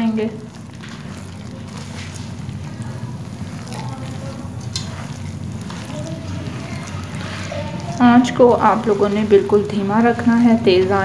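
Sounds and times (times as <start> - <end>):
spatula stirring mixture in pan: 0.0 - 11.0
steady low hum: 0.0 - 11.0.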